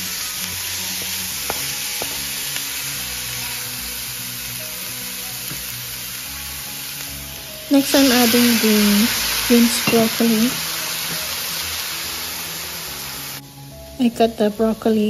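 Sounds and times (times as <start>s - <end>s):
food sizzling in wok: 0.0s - 15.0s.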